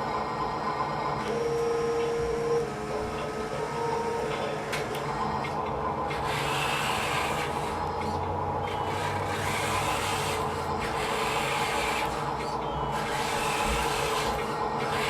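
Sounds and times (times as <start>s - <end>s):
high motor whine: 0.0s - 15.0s
small electric motors whirring: 1.2s - 15.0s.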